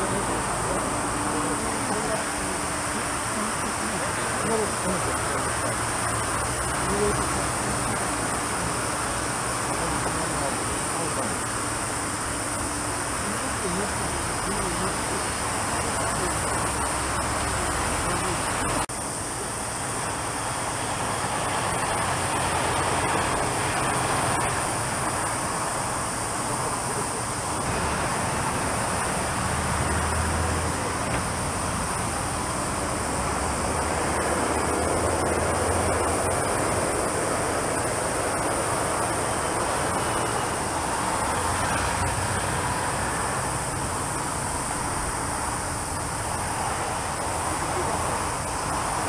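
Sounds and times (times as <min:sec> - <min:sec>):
distant jet engines roaring: 0:00.0 - 0:49.0
high-pitched engine hiss: 0:00.0 - 0:49.0.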